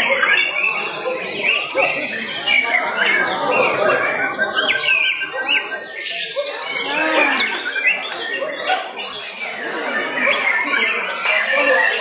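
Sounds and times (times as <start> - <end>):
caged birds singing whistled phrases: 0.0 - 12.0
crowd chattering: 0.0 - 12.0.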